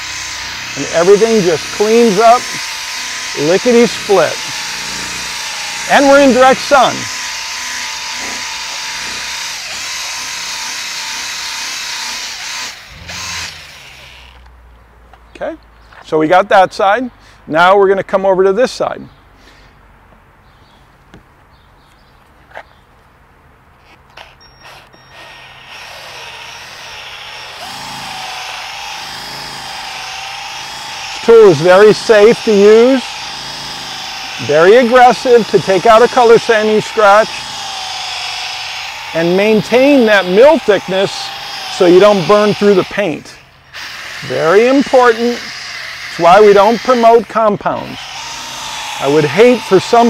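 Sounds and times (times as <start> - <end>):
cordless polisher whirring: 0.0 - 14.5, 24.2 - 50.0.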